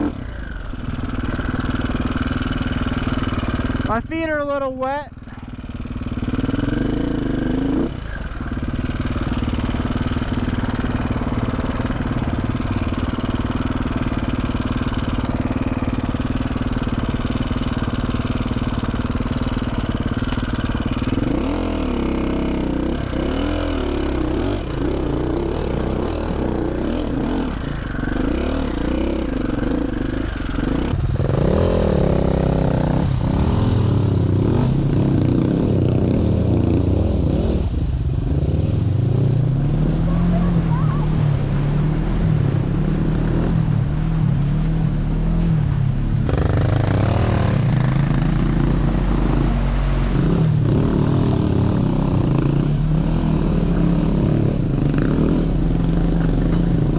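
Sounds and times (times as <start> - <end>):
dirt bike engine revving: 0.0 - 45.6, 46.2 - 56.9.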